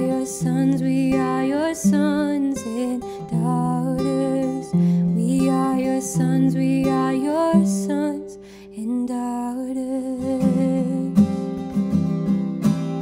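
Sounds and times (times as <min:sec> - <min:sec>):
strummed acoustic guitar: 0:00.0 - 0:08.8, 0:10.1 - 0:13.0
woman singing: 0:00.0 - 0:11.6.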